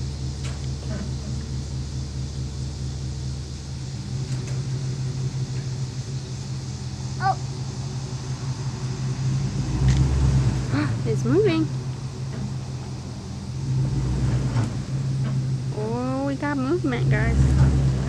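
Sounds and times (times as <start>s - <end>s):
vehicle engine running under load: 0.0s - 18.0s.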